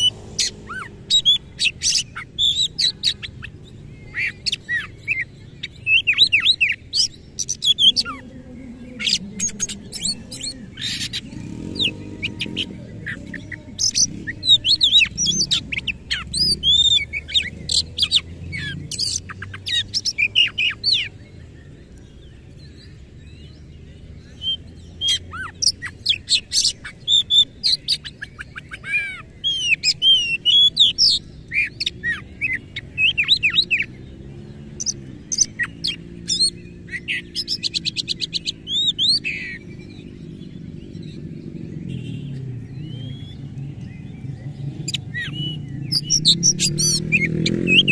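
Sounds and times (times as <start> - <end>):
magpie-robin singing: 0.0 - 47.9.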